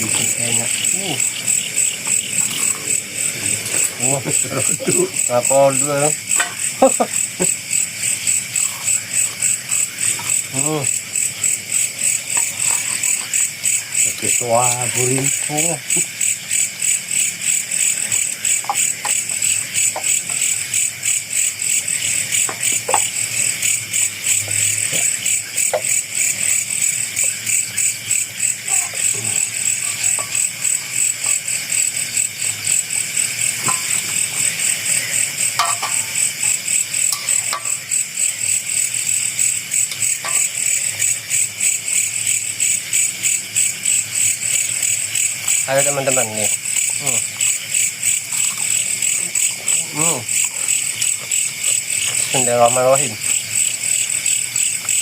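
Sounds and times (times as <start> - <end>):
night insects chirring: 0.0 - 55.0.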